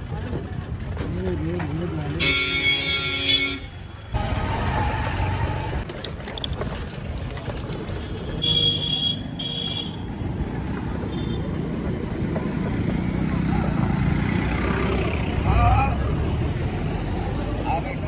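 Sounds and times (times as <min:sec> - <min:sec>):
road and traffic noise: 0:00.0 - 0:18.0.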